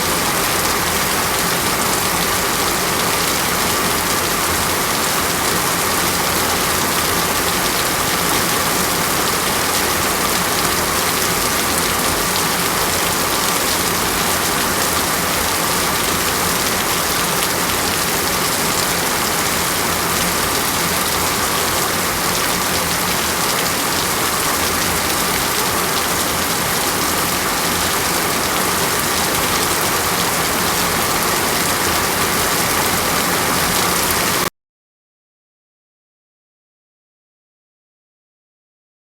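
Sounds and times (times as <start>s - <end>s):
heavy rain falling: 0.0s - 34.5s.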